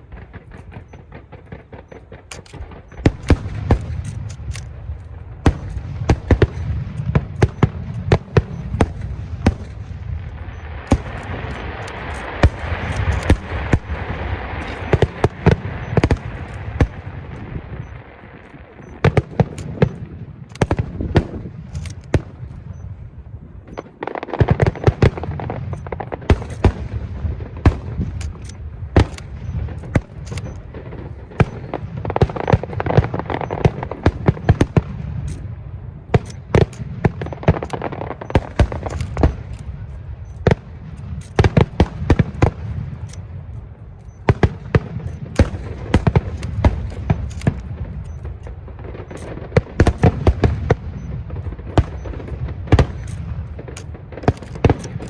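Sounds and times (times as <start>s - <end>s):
fireworks crackling: 0.0s - 22.7s, 23.4s - 55.0s
fireworks bangs and booms: 0.0s - 55.0s.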